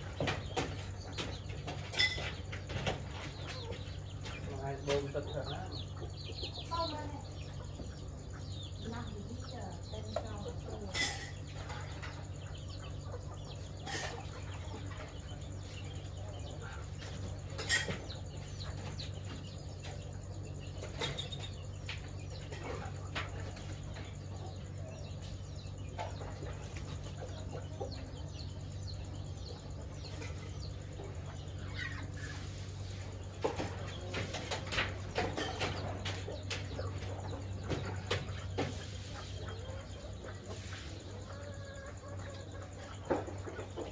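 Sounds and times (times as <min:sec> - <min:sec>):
chicks chirping: 0:00.0 - 0:43.9
steady low hum: 0:00.0 - 0:43.9.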